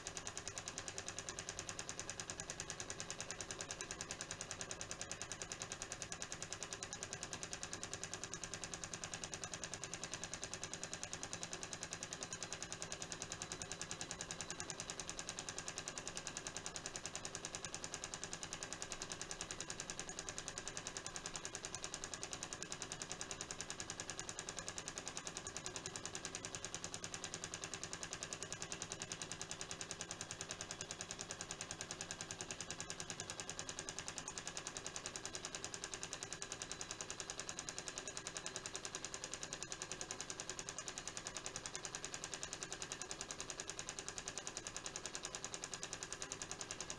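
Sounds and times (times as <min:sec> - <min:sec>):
model engine ticking clatter: 0:00.1 - 0:46.9.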